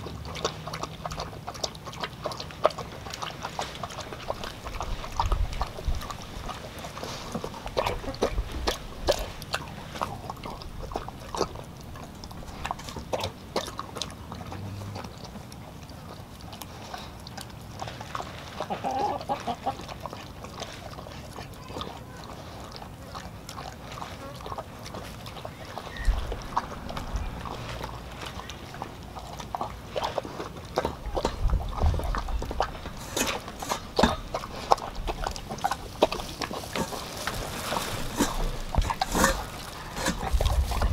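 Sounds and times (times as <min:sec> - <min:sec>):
dog eating from metal bowl: 0:00.0 - 0:40.9.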